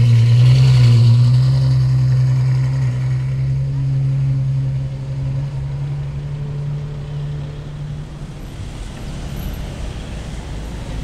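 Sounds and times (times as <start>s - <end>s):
car engine running at low revs: 0.0s - 11.0s
street traffic noise: 0.0s - 11.0s.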